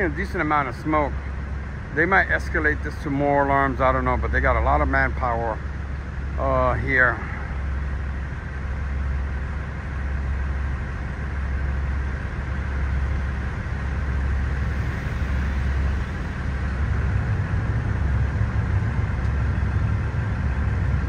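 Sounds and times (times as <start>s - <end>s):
heavy machinery engine rumble: 0.0s - 21.0s
industrial hum: 0.0s - 21.0s.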